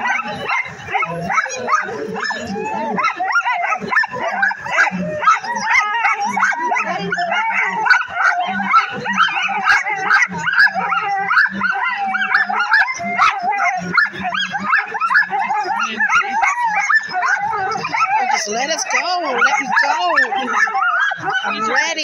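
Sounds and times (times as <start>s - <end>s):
sled dogs barking and howling: 0.0s - 22.0s.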